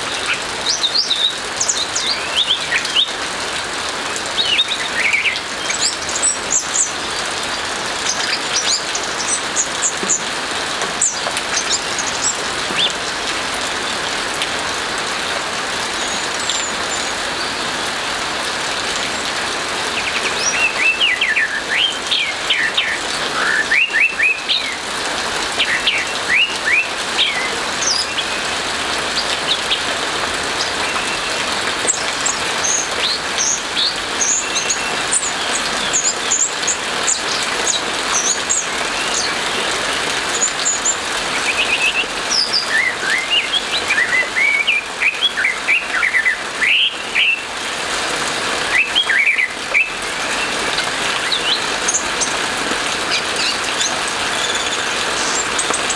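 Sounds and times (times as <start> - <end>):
steady hiss of rain: 0.0 - 55.9.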